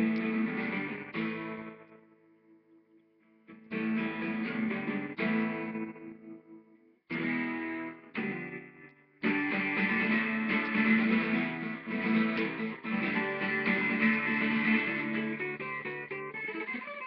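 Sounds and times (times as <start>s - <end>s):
acoustic guitar strumming: 0.0s - 1.9s, 3.5s - 6.3s, 7.1s - 17.0s.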